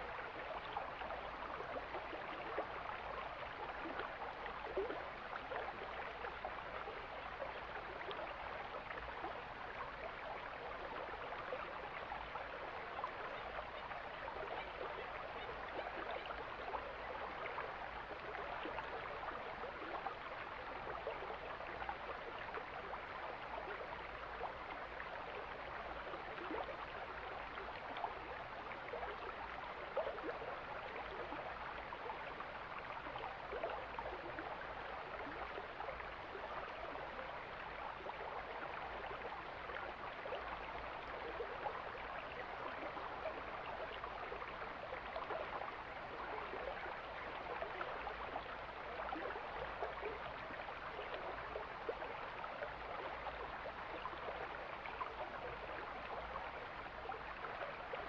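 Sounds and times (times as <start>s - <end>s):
stream water rushing and gurgling: 0.0s - 58.0s.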